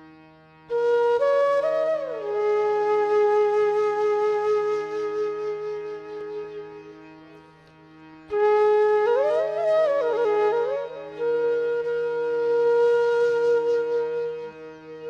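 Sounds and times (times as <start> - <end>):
wind instrument melody: 0.7 - 7.4, 8.3 - 15.0.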